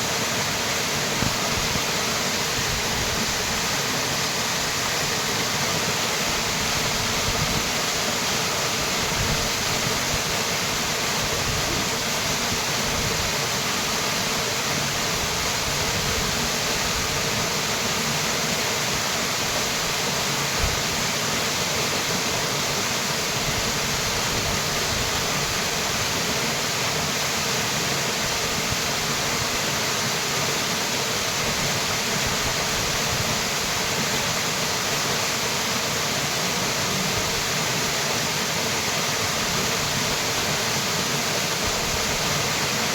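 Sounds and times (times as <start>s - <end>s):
small waterfall rushing: 0.0s - 42.9s.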